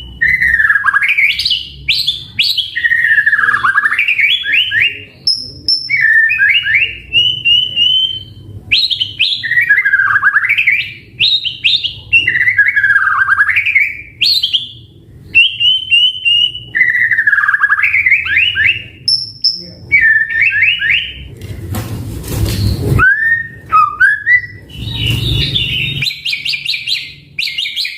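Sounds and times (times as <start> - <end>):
bird singing: 0.0 - 21.3, 22.6 - 27.9.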